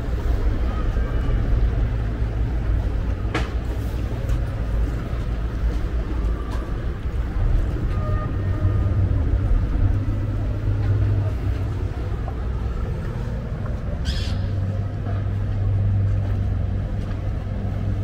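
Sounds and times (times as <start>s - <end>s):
boat engines rumbling: 0.0s - 18.0s.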